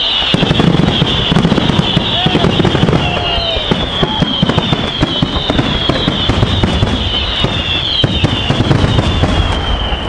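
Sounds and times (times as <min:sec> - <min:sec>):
falling firework whistles: 0:00.0 - 0:10.0
fireworks crackling and popping: 0:00.0 - 0:10.0.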